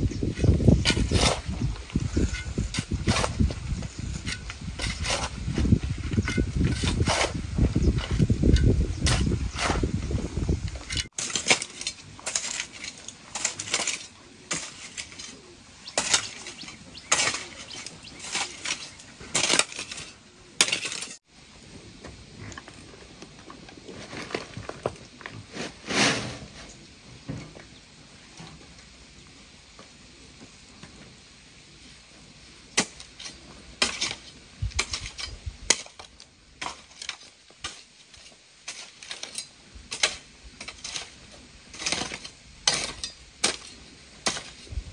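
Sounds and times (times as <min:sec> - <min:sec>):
shovel scraping dry earth: 0:00.2 - 0:21.3, 0:23.7 - 0:26.9, 0:32.7 - 0:44.9.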